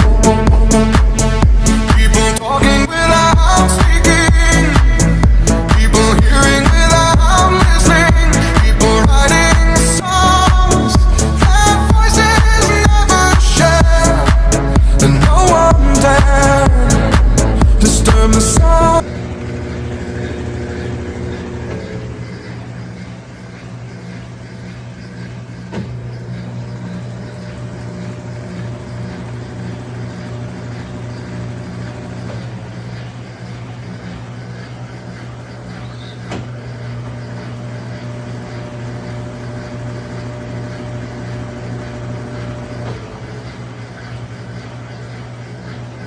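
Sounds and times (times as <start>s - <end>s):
washing machine spinning: 0.0s - 46.0s.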